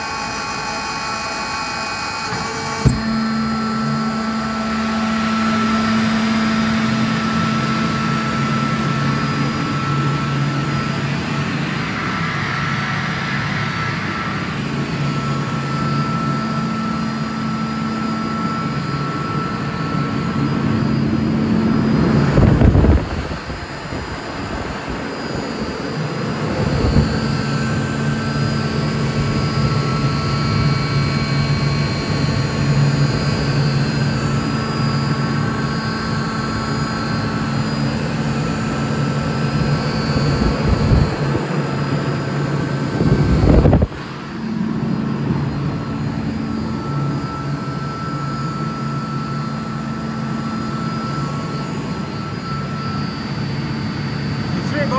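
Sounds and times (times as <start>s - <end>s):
air compressor humming and whining: 0.0s - 54.9s
loud surges of noise: 2.9s - 54.9s.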